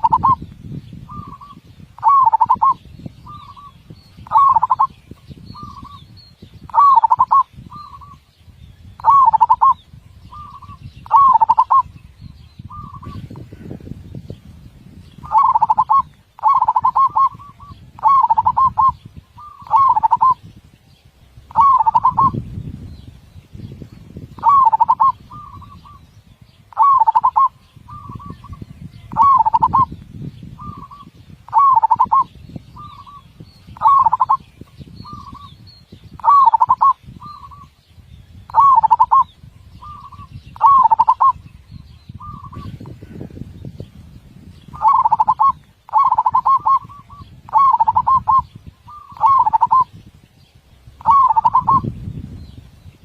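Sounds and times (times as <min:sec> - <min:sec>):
dove cooing song: 0:00.0 - 0:08.3, 0:08.9 - 0:20.7, 0:21.5 - 0:23.0, 0:23.6 - 0:43.8, 0:44.5 - 0:50.1, 0:50.9 - 0:53.0.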